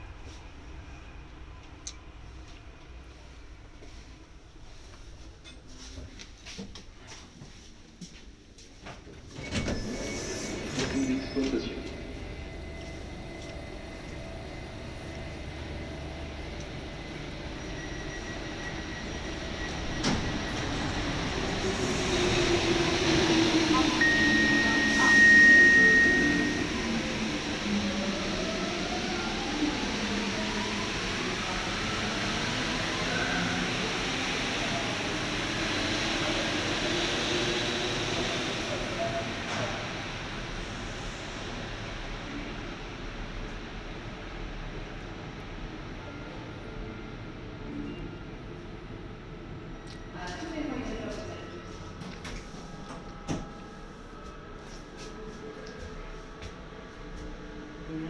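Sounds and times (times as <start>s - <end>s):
train rumbling with faint whine: 0.0s - 58.0s.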